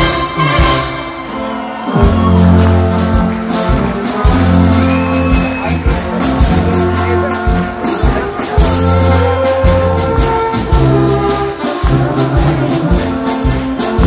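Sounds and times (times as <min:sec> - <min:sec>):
brass band playing polka: 0:00.0 - 0:14.0
tuba bass notes: 0:00.0 - 0:14.0.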